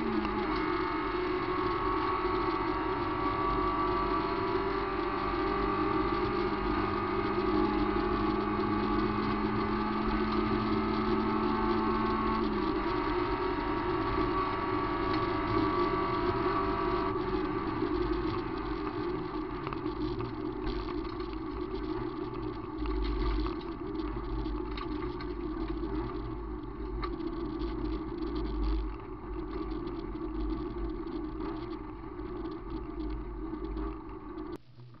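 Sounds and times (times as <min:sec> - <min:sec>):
car engine drone: 0:00.0 - 0:35.0
gravel clicking and knocking: 0:00.0 - 0:35.0
low road rumble: 0:00.0 - 0:35.0.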